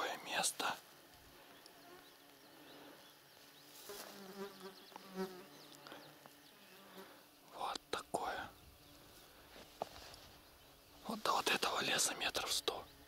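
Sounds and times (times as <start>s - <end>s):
flying insect buzzing: 0.0s - 13.0s.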